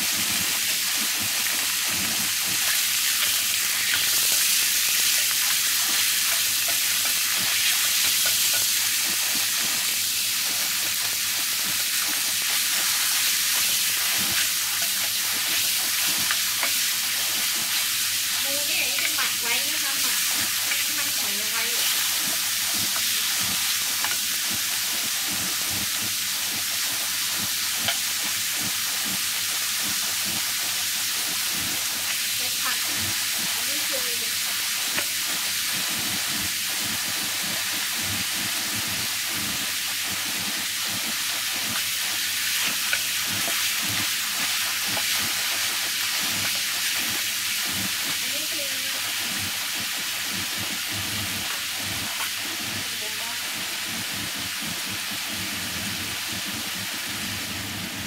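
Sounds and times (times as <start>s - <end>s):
meat sizzling in a frying pan: 0.0s - 58.0s.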